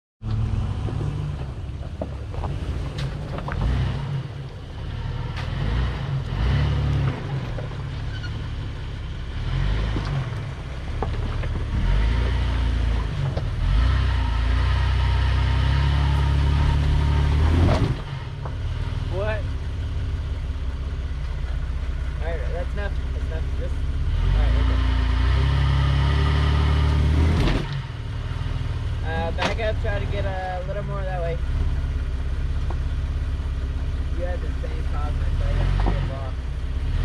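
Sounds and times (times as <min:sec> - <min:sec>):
off-road engine running at low revs: 0:00.2 - 0:37.0.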